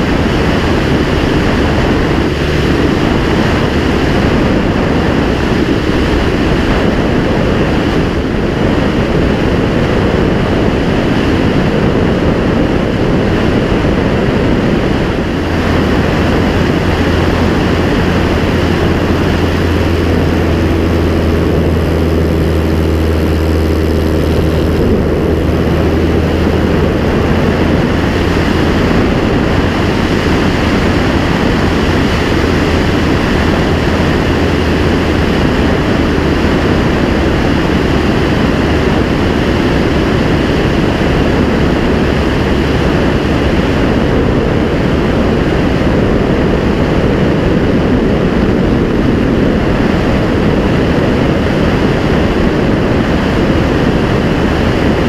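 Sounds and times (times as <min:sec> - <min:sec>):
airplane engine and propeller: 0:00.0 - 0:55.0
wind rushing over microphone: 0:00.0 - 0:55.0.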